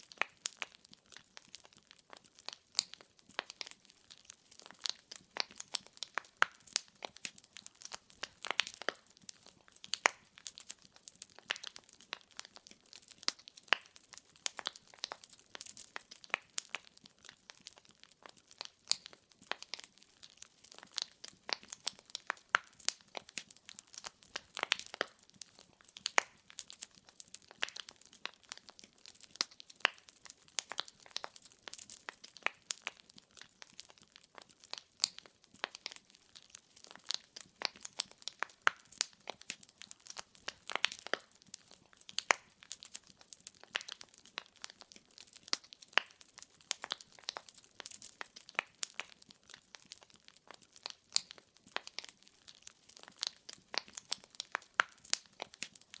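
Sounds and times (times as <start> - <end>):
logs crackling in a fireplace: 0.0 - 56.0.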